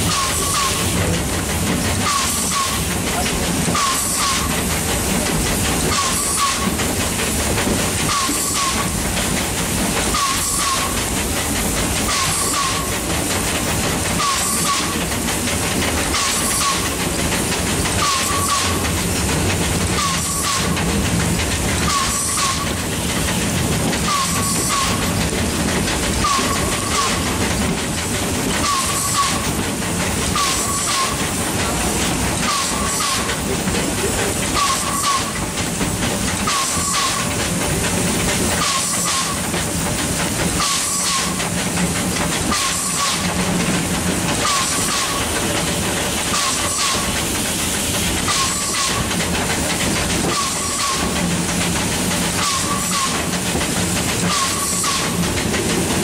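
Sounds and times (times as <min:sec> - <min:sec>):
steam locomotive hissing and chuffing: 0:00.0 - 0:56.0.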